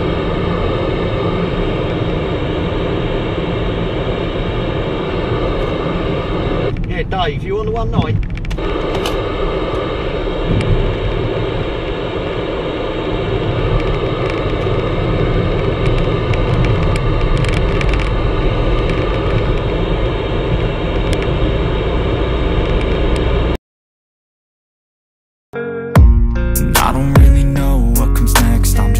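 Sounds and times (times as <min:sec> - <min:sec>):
road and engine noise in car: 0:00.0 - 0:23.6.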